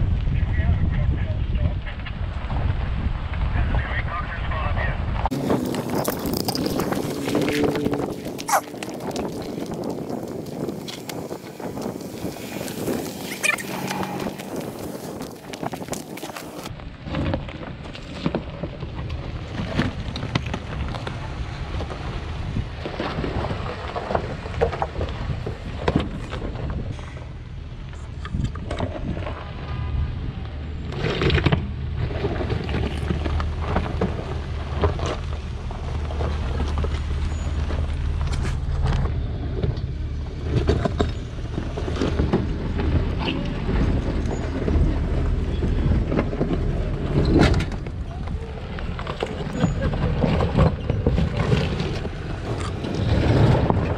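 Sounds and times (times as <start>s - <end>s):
low engine hum: 5.0s - 53.9s.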